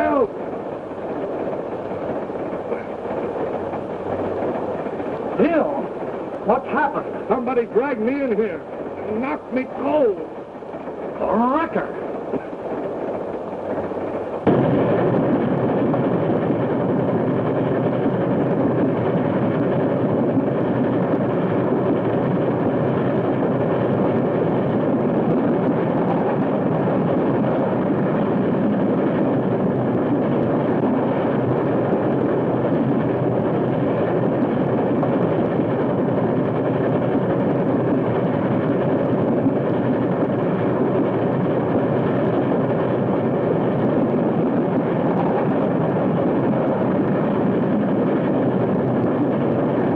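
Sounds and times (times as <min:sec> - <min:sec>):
steam train rumbling: 0:00.0 - 0:49.9.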